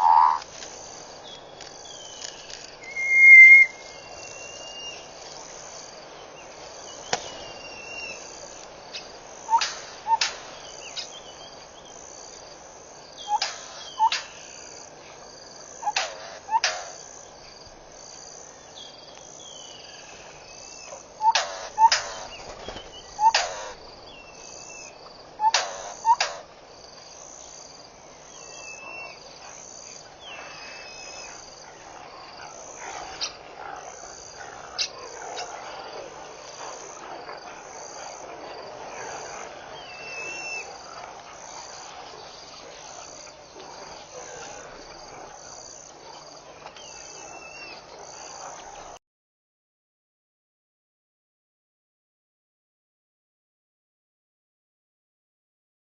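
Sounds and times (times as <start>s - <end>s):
insects chirping: 0.0s - 49.0s.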